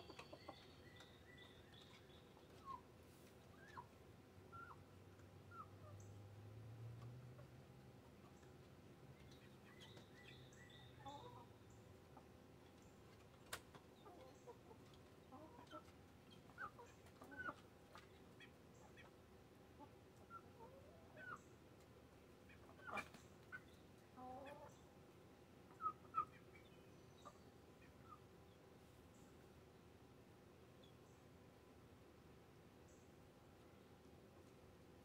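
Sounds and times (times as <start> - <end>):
chickens clucking: 0.0 - 6.1, 7.0 - 29.5.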